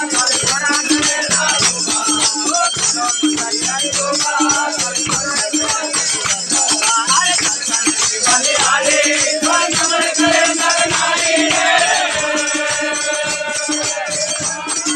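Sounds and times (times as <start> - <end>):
rattling hand percussion: 0.0 - 14.9
voices singing: 0.0 - 14.9.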